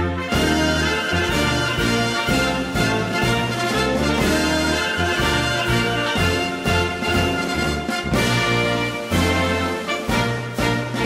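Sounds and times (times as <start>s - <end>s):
music with brass and bass: 0.0s - 11.0s.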